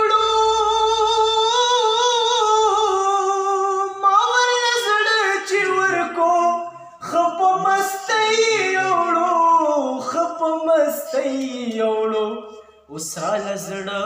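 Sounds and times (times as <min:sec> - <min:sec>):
man singing into microphone: 0:00.0 - 0:14.0.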